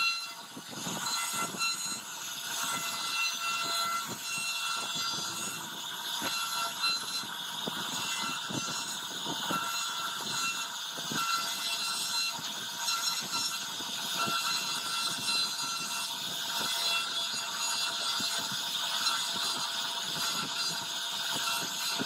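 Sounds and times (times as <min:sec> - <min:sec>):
bit carving wood: 0:00.0 - 0:22.0
cnc router spindle whining: 0:00.0 - 0:22.0.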